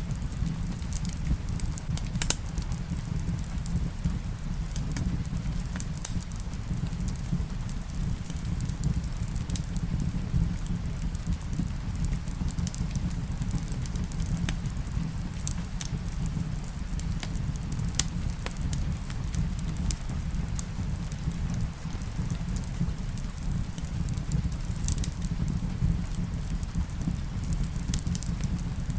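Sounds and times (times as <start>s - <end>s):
fireplace crackling: 0.0s - 28.9s
rain: 0.0s - 28.9s.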